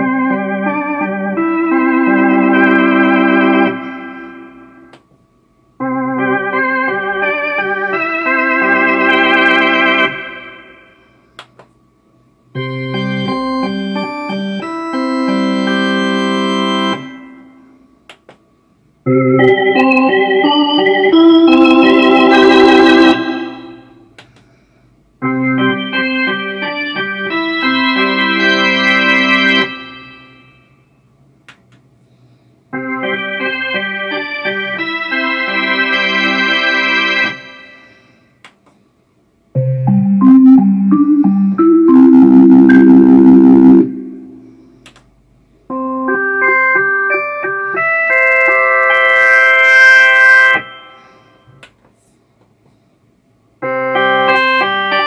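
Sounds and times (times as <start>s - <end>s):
synthesizer organ chords: 0.0s - 18.0s, 18.9s - 24.2s, 25.2s - 31.2s, 32.7s - 38.2s, 39.4s - 45.0s, 45.6s - 51.6s, 53.6s - 55.0s.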